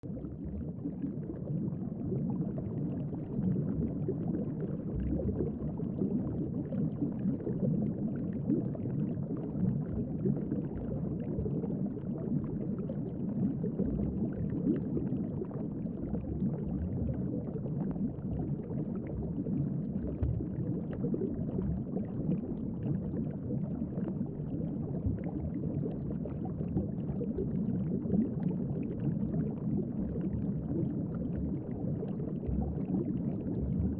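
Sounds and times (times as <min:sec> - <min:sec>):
underwater rumble of moving water: 0:00.0 - 0:33.9.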